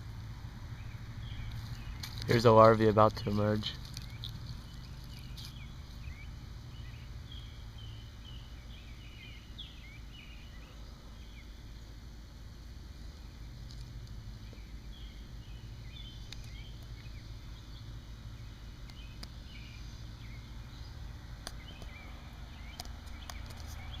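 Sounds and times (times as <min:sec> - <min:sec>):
bird chirps: 0:00.7 - 0:12.0, 0:14.4 - 0:24.0.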